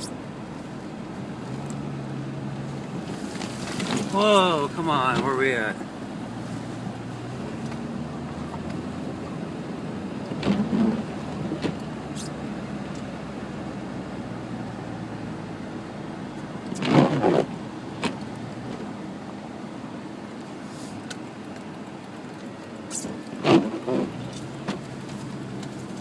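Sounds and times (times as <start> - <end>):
car engine hum and road noise: 0.0 - 26.0.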